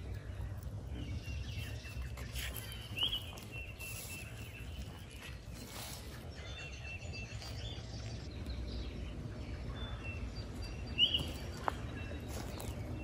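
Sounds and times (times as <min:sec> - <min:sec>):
birds chirping and calling: 0:00.0 - 0:13.0
low steady rumble: 0:00.0 - 0:13.0.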